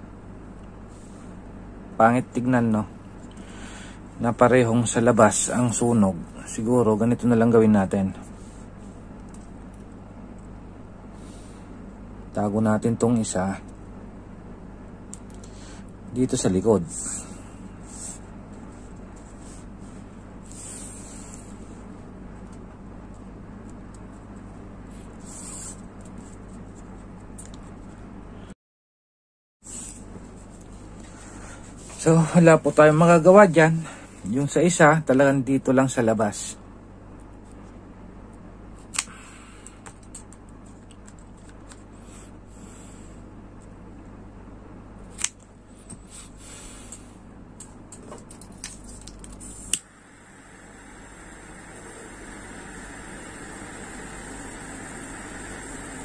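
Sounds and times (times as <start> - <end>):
steady low hum: 0.0 - 28.6, 29.7 - 56.0.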